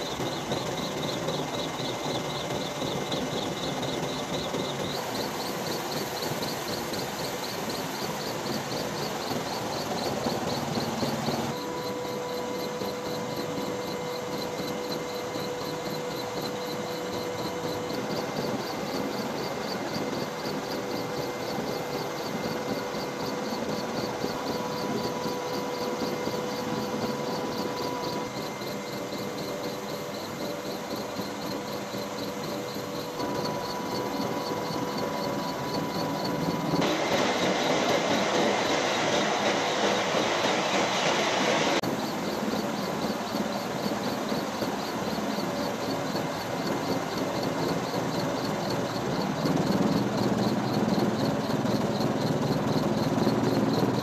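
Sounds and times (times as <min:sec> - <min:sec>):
aircraft rotor and engine noise: 0:00.0 - 0:54.0.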